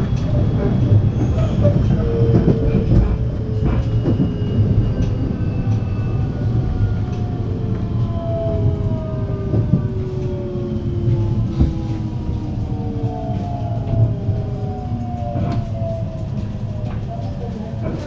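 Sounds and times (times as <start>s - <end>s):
low train running rumble: 0.0s - 18.0s.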